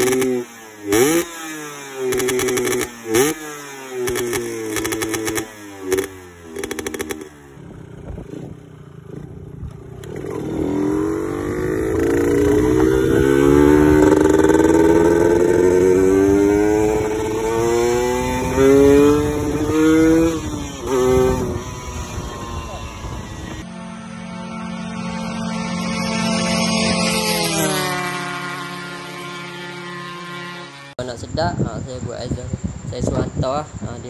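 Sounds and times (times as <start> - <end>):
motorcycle accelerating away: 0.0 - 23.7, 24.9 - 31.0
two-stroke motorcycle engine revving: 0.0 - 23.9, 24.6 - 31.0.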